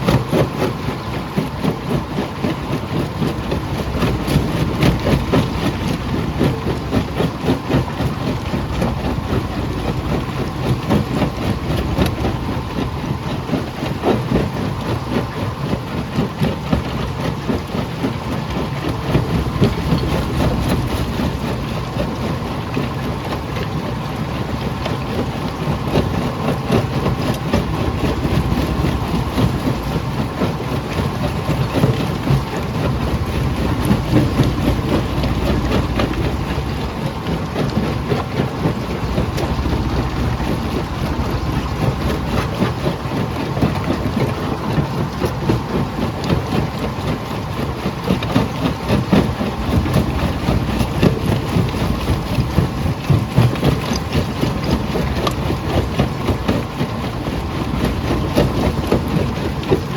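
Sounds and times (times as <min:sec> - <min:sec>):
crusher machine rumble: 0:00.0 - 0:59.9.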